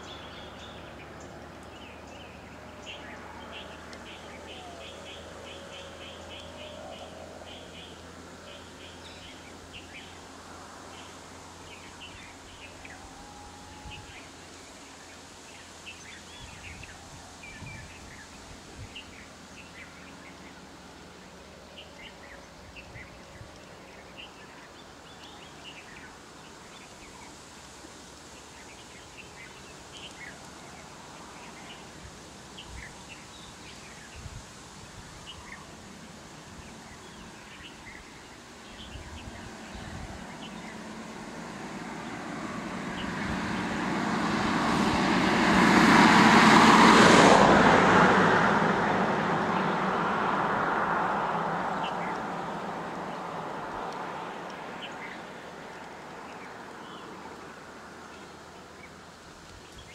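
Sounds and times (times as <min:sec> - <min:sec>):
road vehicle approaching: 0:00.0 - 0:59.9
steady outdoor hiss: 0:00.0 - 0:59.9.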